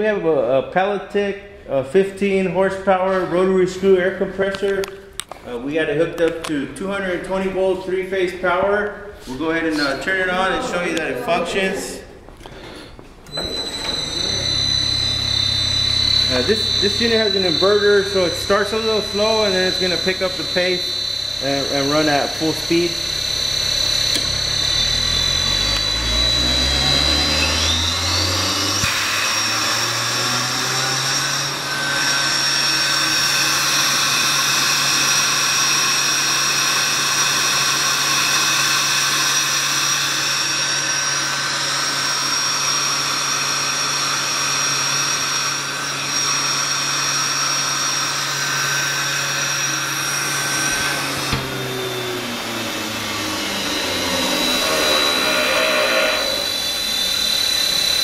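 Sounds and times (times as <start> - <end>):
air compressor motor whining: 1.1 - 58.0.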